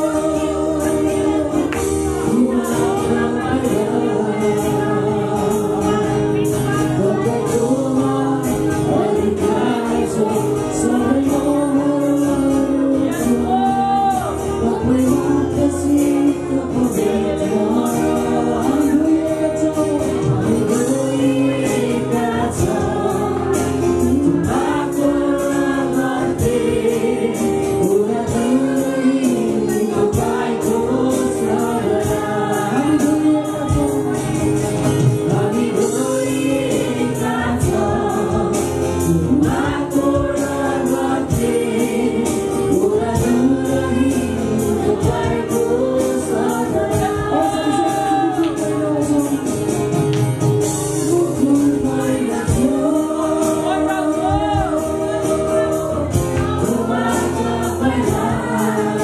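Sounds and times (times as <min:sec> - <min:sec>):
acoustic guitar: 0:00.0 - 0:59.0
people singing together: 0:00.0 - 0:59.0.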